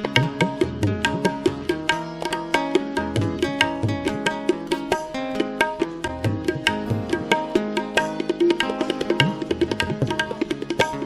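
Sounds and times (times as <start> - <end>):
tabla strokes: 0.0 - 11.0.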